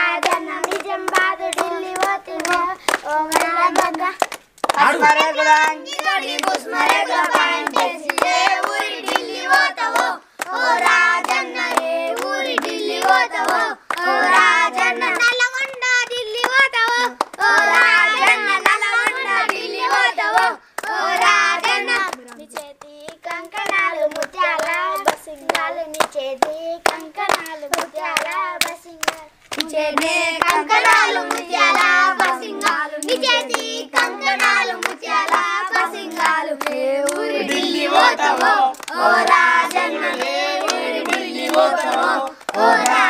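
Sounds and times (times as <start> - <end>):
girls and children singing: 0.0 - 43.0
rhythmic hand clapping: 0.0 - 43.0.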